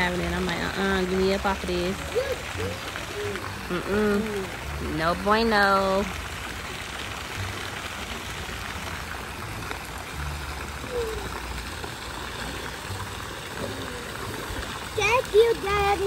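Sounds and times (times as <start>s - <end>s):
pool water sloshing and splashing: 0.0s - 16.0s.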